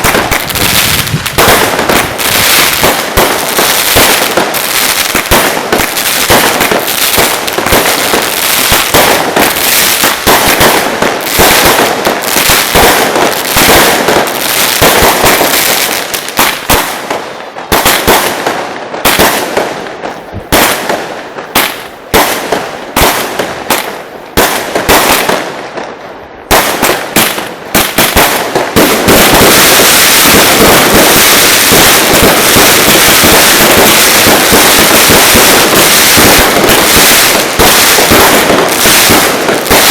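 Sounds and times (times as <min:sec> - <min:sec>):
firecracker bangs: 0:00.0 - 0:25.8, 0:26.4 - 0:39.9.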